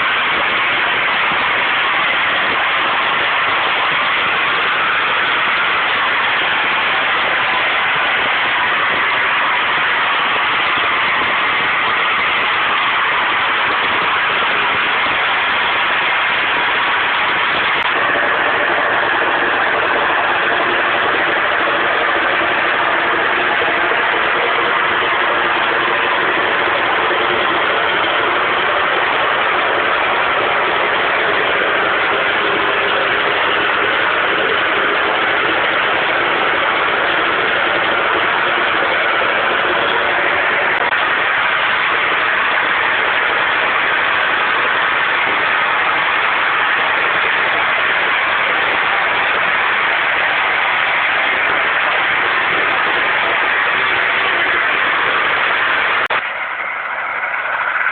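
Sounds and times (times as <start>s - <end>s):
roar of gas jetting from well: 0.0s - 57.9s.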